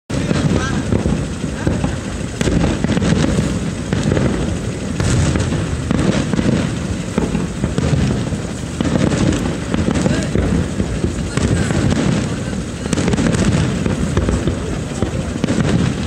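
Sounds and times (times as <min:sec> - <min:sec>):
rumble of fireworks bursting: 0:00.1 - 0:16.0
sharp firework cracks: 0:00.1 - 0:16.0.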